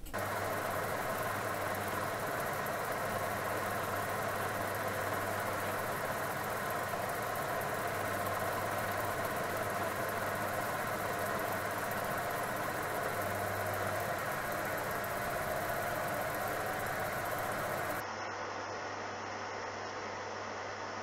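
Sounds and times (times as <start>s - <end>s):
milling machine motor hum: 0.0s - 18.0s.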